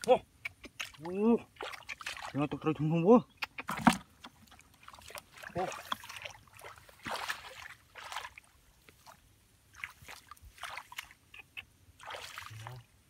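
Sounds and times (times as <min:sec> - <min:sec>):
muddy water sloshing and splashing: 0:00.0 - 0:13.0.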